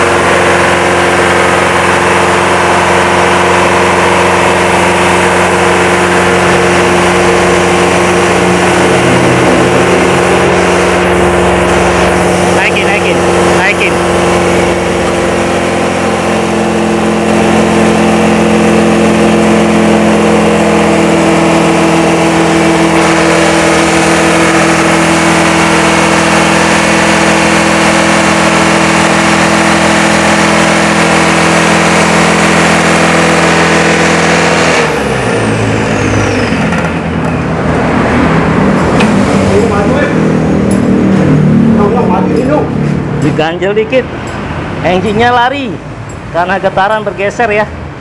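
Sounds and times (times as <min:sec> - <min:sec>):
diesel engine running fast: 0:00.0 - 0:48.0
engine whine running down: 0:00.0 - 0:48.0.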